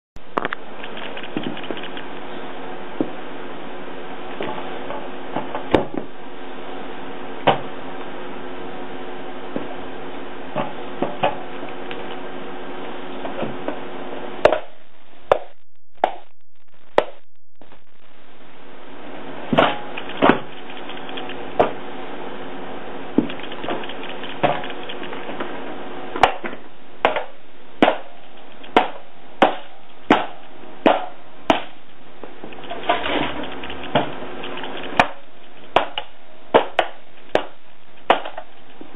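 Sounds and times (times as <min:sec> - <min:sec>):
steady background hum: 0:00.2 - 0:38.9.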